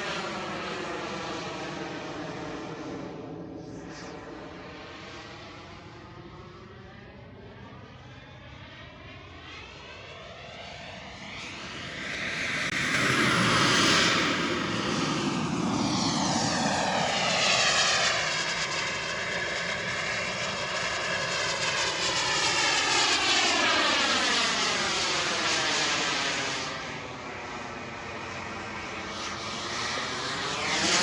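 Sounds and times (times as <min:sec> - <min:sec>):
model airplane engine: 0:00.0 - 0:31.0.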